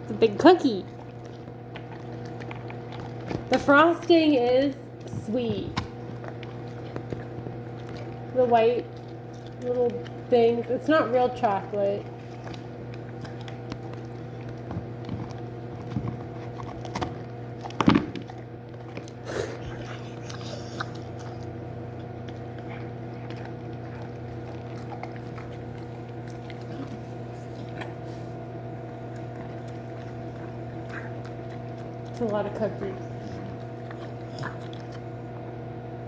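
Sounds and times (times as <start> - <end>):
dog crunching a hard cookie: 0.0 - 35.6
steady hum: 0.0 - 36.0.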